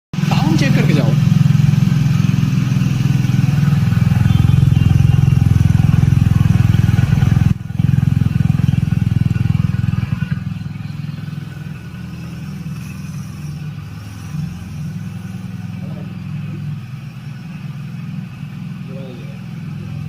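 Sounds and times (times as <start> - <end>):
motorcycle engine running: 0.2 - 20.0.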